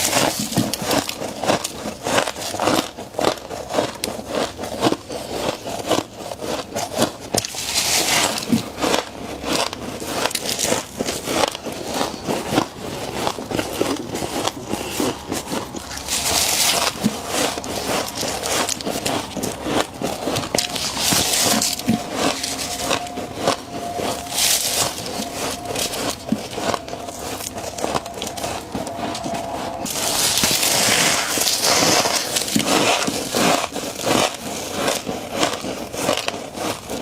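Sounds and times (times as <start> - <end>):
frost crunching while chewed: 0.0 - 37.0.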